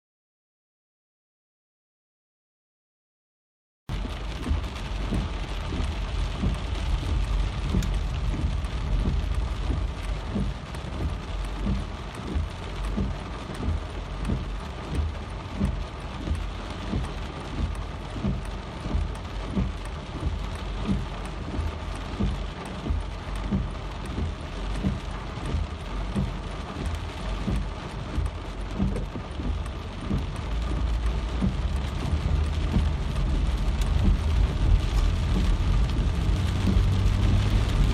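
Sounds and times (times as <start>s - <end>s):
low rumble: 3.9s - 37.9s
rain falling: 3.9s - 37.9s.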